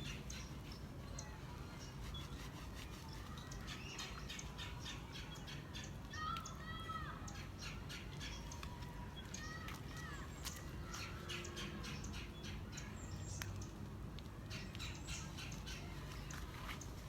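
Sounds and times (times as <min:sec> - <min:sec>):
birds squawking and calling: 0:00.0 - 0:13.7, 0:14.5 - 0:17.0
steady low background noise: 0:00.0 - 0:17.0.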